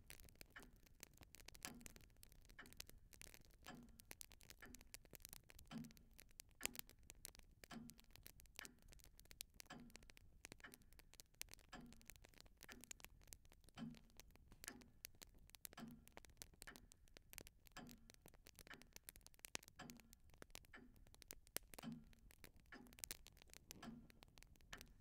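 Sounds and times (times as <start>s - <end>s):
clock ticking: 0.0s - 25.0s
light irregular clicks: 0.0s - 25.0s.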